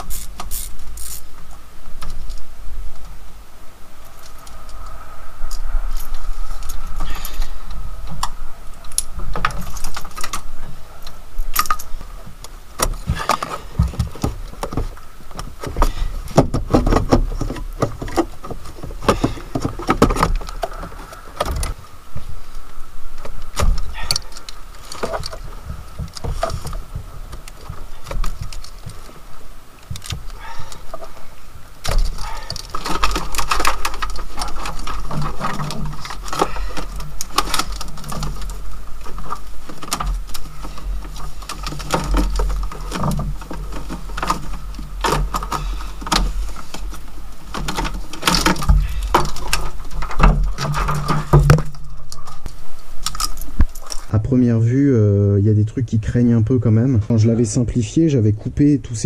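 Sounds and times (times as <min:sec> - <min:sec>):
wires rustling: 0:00.0 - 0:54.2.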